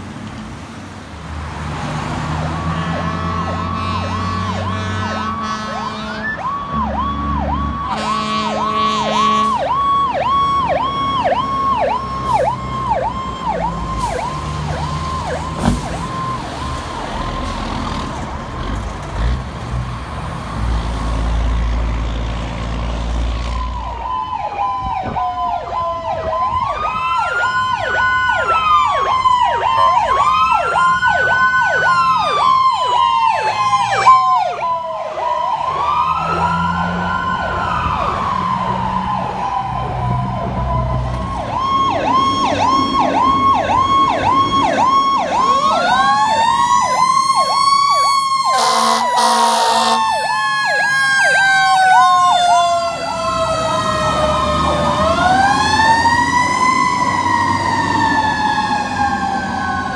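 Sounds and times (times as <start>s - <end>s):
wailing siren: 1.6s - 59.9s
electronic siren yelping: 2.4s - 17.6s, 23.7s - 59.9s.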